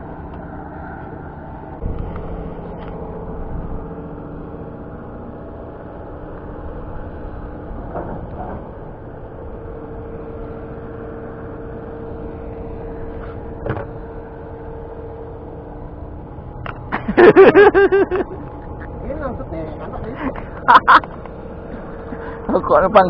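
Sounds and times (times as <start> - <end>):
boat engine idling: 0.0 - 23.0.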